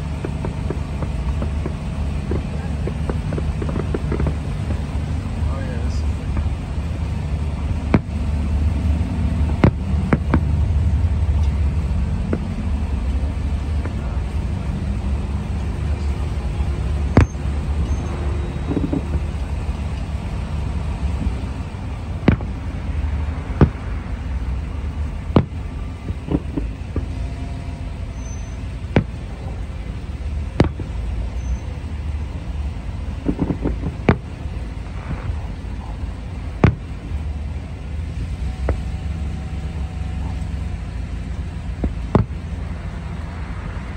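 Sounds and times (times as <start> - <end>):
fireworks shells bursting: 0.0 - 14.5, 15.4 - 37.4
steady low rumble: 0.0 - 43.9.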